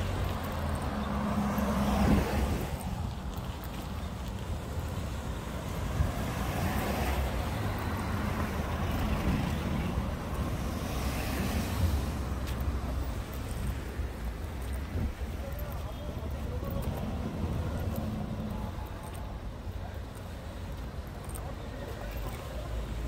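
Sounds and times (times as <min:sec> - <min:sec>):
low rumble of traffic: 0:00.0 - 0:23.0.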